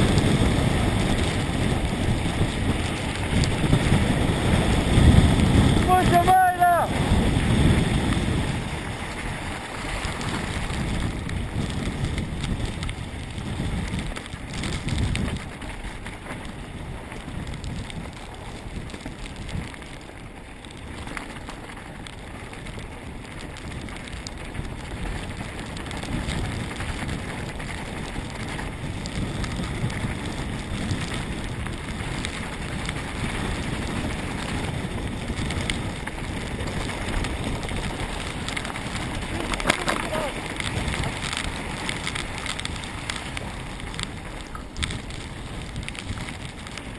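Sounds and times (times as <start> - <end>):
mountain bike rattling on rough trail: 0.0 - 46.9
wind buffeting microphone: 0.0 - 46.9.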